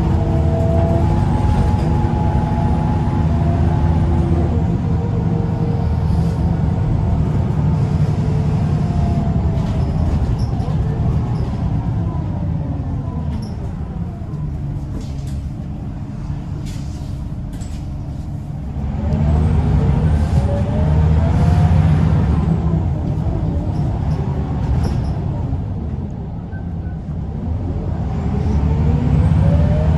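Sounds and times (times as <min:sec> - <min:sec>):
bus diesel engine: 0:00.0 - 0:29.9.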